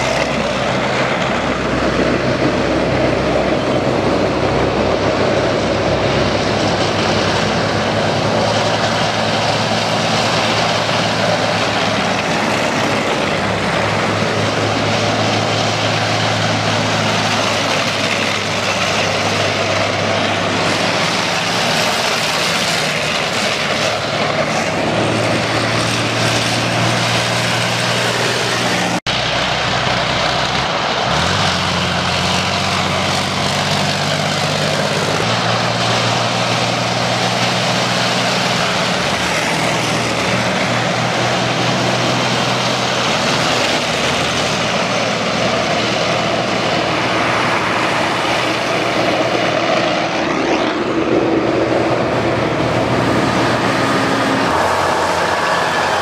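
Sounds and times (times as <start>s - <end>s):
heavy military vehicles driving past: 0.0s - 56.0s.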